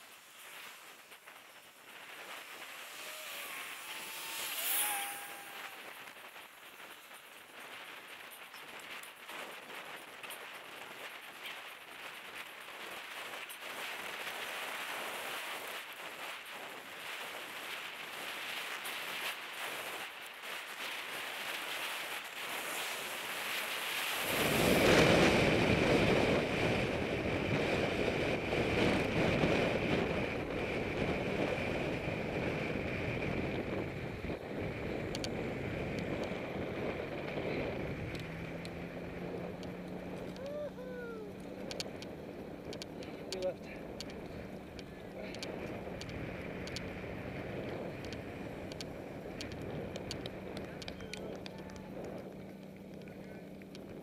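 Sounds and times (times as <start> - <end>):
road noise hiss: 0.0 - 54.0
wind buffeting microphone: 0.0 - 54.0.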